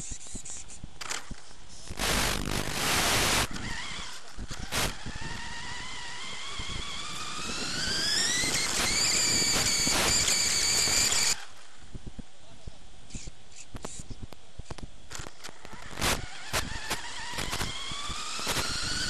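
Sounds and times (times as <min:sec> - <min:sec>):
rc car motor whine: 0:00.0 - 0:11.8, 0:15.1 - 0:19.0.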